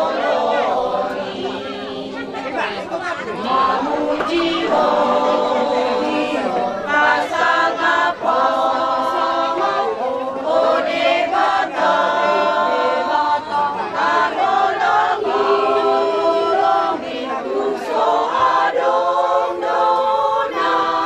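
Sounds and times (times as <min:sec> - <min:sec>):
women singing unaccompanied: 0:00.0 - 0:21.0.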